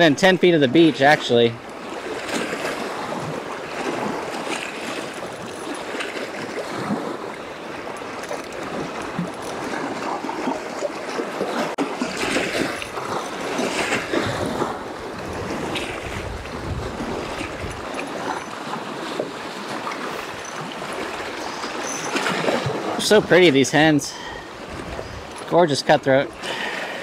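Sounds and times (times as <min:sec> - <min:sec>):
waves washing over rocky shore: 0:00.0 - 0:27.0.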